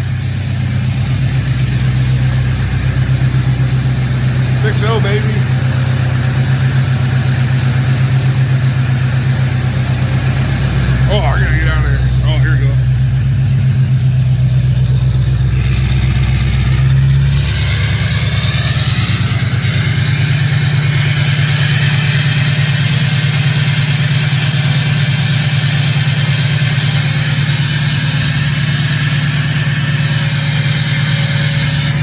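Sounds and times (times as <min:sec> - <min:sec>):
diesel engine idling: 0:00.0 - 0:26.1.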